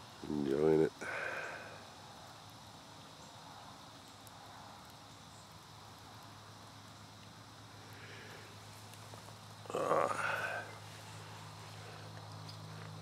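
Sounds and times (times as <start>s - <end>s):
insects chirring: 0.0s - 13.0s
soft hiss: 0.0s - 13.0s.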